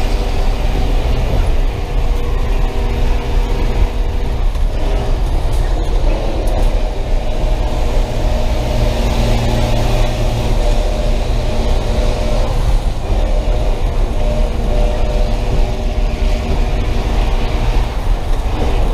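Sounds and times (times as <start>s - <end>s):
bus engine droning under load: 0.0s - 18.9s.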